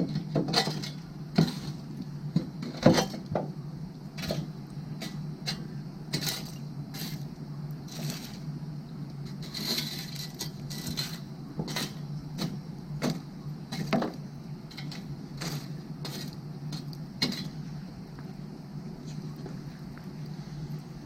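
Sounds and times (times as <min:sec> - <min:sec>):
firewood crackling and popping: 0:00.0 - 0:18.4.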